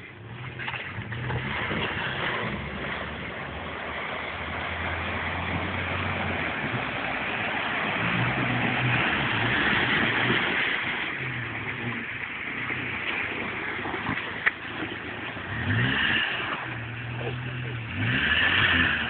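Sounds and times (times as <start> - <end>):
car engine running: 0.0 - 19.0
water splashing: 0.0 - 19.0.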